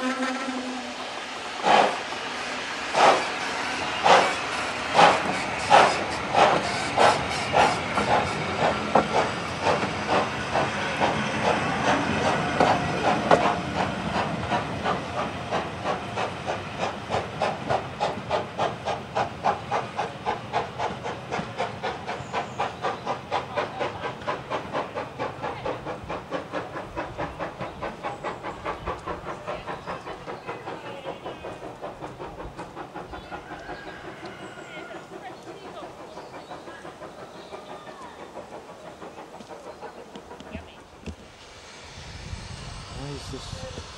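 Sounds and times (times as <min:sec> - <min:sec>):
steam hiss: 0:00.0 - 0:43.9
steam locomotive chuffing: 0:00.0 - 0:43.9.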